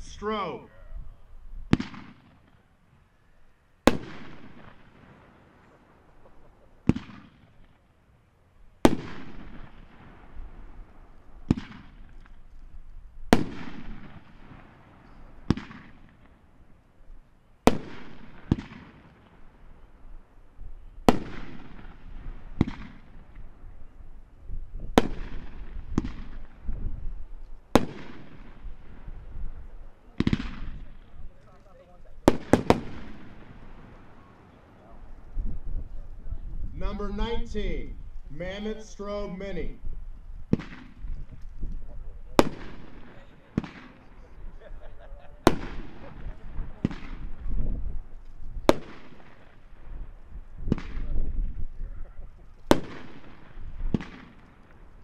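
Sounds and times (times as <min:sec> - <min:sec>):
hissing crackling firework trail: 0:00.0 - 0:55.0
fireworks bangs: 0:01.6 - 0:03.1, 0:03.8 - 0:07.9, 0:08.7 - 0:20.0, 0:20.8 - 0:24.0, 0:24.6 - 0:55.0.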